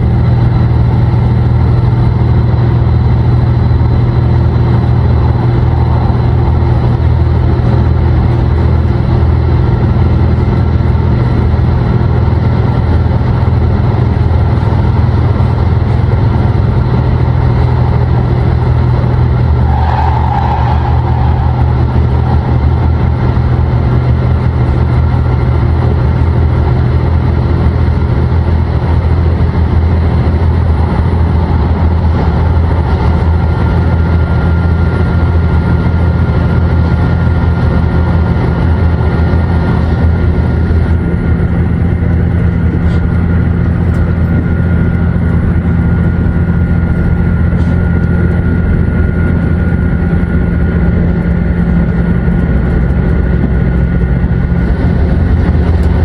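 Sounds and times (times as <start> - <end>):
railcar diesel engine drone: 0.0 - 56.0.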